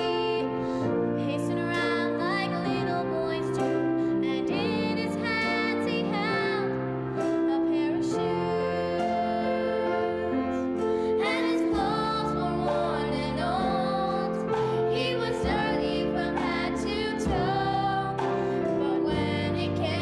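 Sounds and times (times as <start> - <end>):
choir singing slow song: 0.0 - 20.0
instrumental accompaniment: 0.0 - 20.0.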